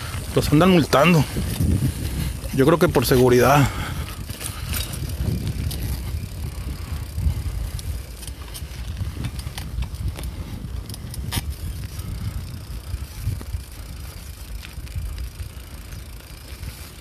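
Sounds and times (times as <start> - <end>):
bicycle clicks and rattles: 0.0 - 17.0
wind and tyres rumbling: 0.0 - 17.0.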